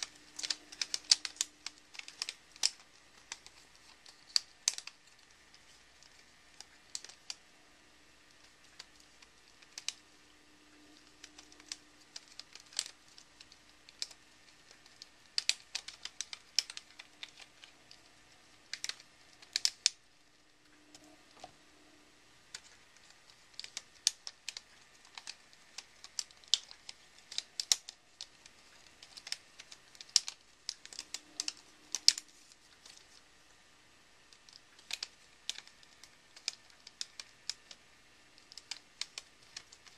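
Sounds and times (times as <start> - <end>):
plastic puzzle segments clicking: 0.0 - 7.4, 8.3 - 18.0, 18.7 - 20.0, 22.5 - 33.2, 34.3 - 39.9.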